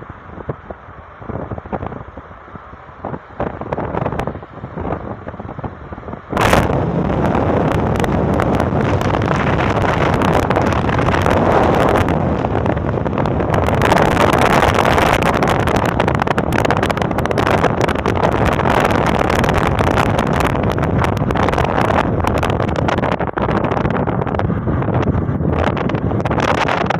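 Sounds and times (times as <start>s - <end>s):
moving vehicle rush: 0.0s - 26.9s
wind buffeting microphone: 0.0s - 26.9s.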